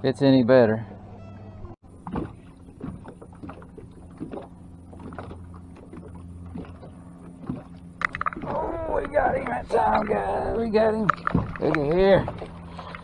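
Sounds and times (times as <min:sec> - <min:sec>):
boat engine low hum: 0:00.0 - 0:13.0.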